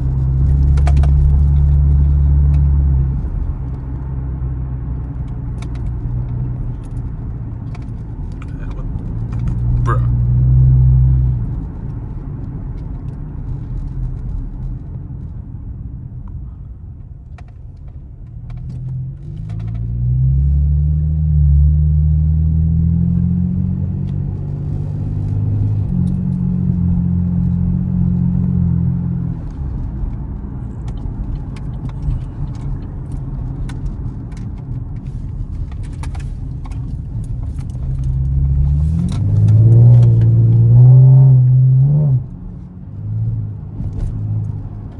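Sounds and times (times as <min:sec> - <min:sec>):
car engine and exhaust rumbling: 0:00.0 - 0:44.9.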